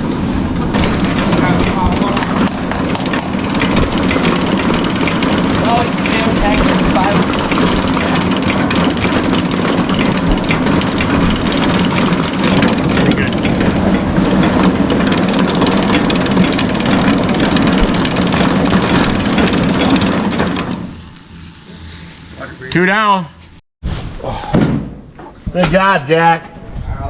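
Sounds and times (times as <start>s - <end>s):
farm machinery engine rattling: 0.0s - 23.6s.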